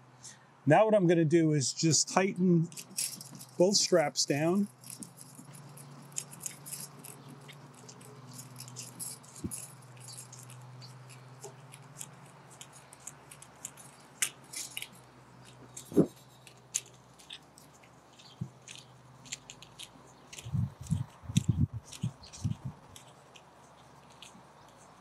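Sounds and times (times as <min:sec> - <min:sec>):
small clicks of screws tightening: 0:04.7 - 0:25.0.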